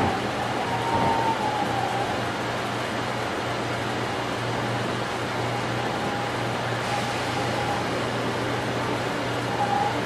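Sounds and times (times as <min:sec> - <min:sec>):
train cab running rush: 0:00.0 - 0:10.0.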